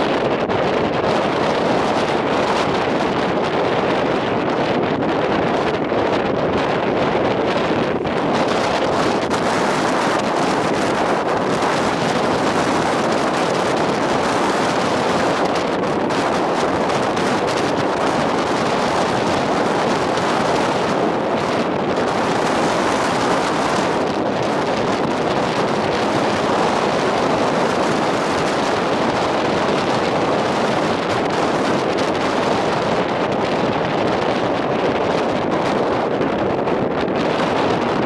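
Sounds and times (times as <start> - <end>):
jet engine roar: 0.0 - 38.0
wind buffeting microphone: 0.0 - 38.0.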